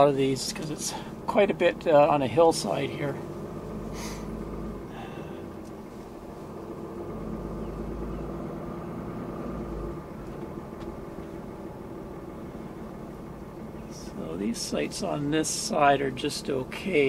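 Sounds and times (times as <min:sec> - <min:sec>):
engine and tyres rumbling: 0:00.0 - 0:17.0.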